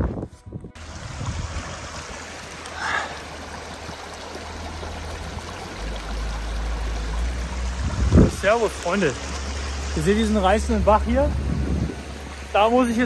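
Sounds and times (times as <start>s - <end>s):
mountain stream rushing: 0.8s - 13.0s.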